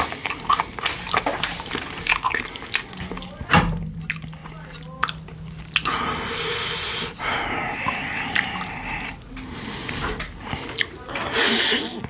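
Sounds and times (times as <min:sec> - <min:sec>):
wet soup slurping: 0:00.0 - 0:03.5, 0:04.1 - 0:12.0
mouth clicks and smacks: 0:00.0 - 0:12.0.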